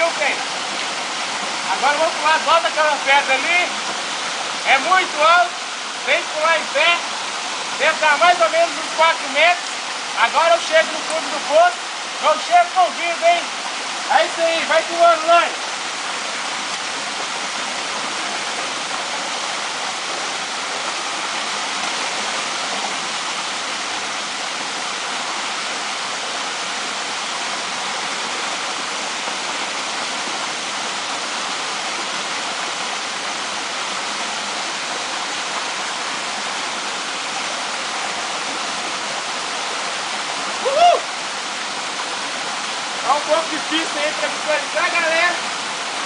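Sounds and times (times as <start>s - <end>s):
waterfall cascading into pool: 0.0s - 46.0s.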